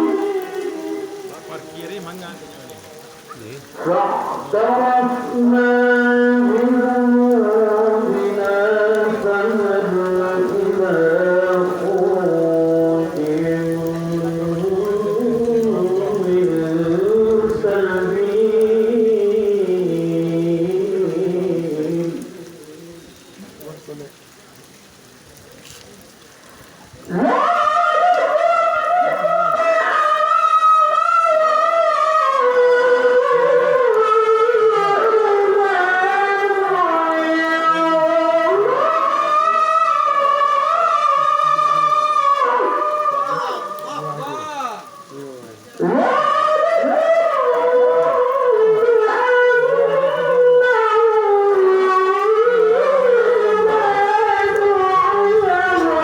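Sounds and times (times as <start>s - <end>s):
person reciting in melismatic chant: 0.0s - 24.2s, 25.9s - 56.0s.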